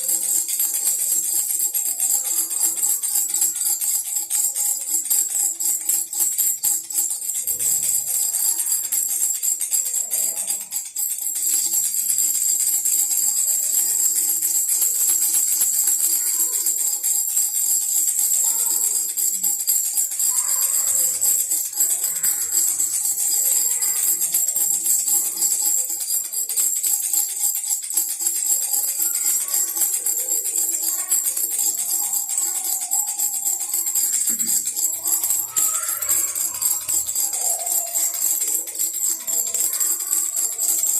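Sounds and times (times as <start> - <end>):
baby rattle jingling: 0.0 - 40.9.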